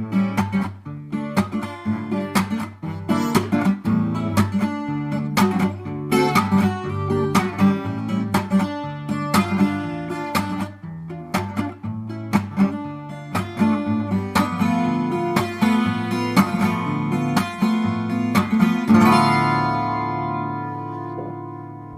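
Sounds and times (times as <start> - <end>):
acoustic guitar chords: 0.0 - 21.9.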